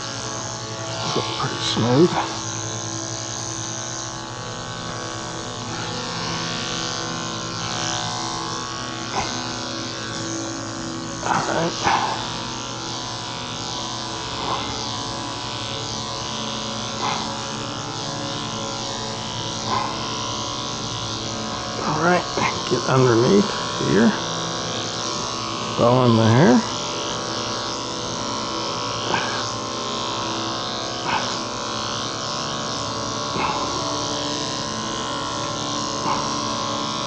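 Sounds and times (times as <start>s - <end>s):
electric clipper humming: 0.0s - 37.0s.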